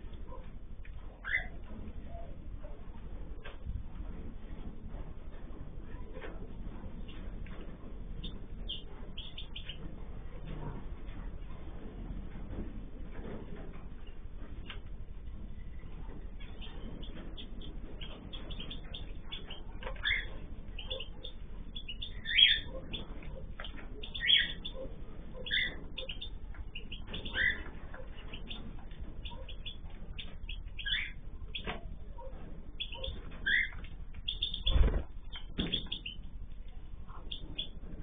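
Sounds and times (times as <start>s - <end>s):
cage birds chirping: 0.0s - 38.0s.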